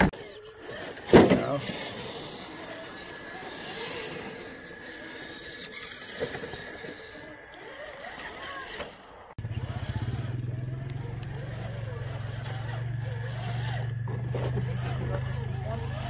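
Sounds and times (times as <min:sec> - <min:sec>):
electric motor and gearbox whine: 0:00.0 - 0:16.0.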